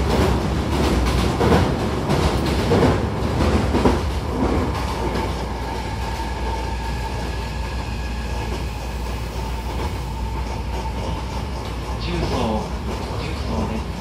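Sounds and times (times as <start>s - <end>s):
electric train running rumble: 0.0s - 14.0s.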